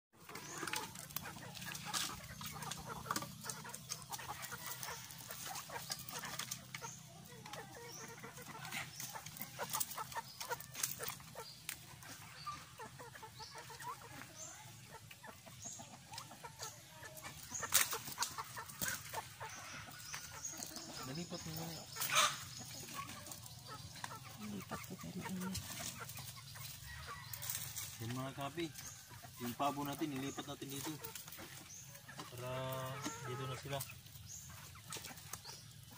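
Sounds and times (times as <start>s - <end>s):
chickens clucking: 0.1s - 35.9s.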